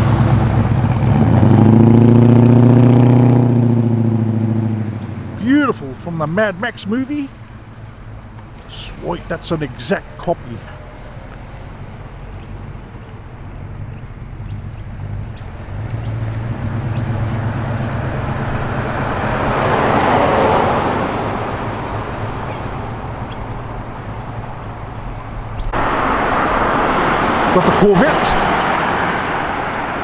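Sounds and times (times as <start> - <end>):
car driving past: 0.0 - 30.0.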